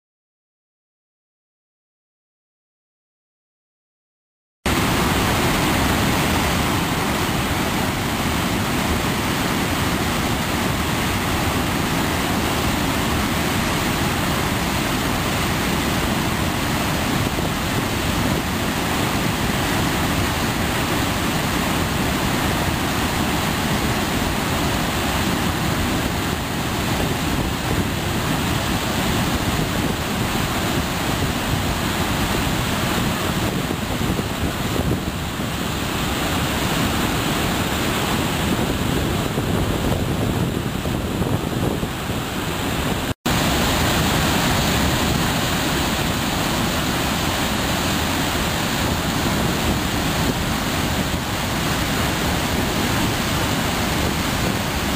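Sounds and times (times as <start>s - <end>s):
waterfall roaring: 4.7s - 54.9s.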